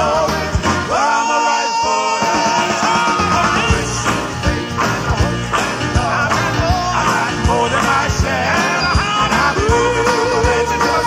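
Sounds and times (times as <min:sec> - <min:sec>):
band playing: 0:00.0 - 0:11.0
person singing: 0:00.0 - 0:11.0
drum beat: 0:02.1 - 0:11.0.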